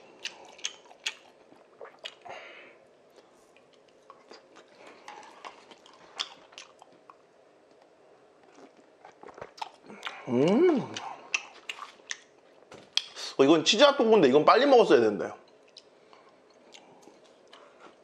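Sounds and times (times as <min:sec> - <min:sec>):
person chewing: 0:00.0 - 0:02.4, 0:03.0 - 0:13.3, 0:15.5 - 0:18.0.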